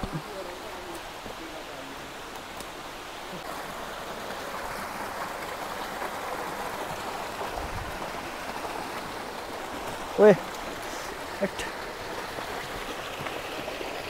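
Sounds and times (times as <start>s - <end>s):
stream cascading over boulders: 0.0s - 14.0s.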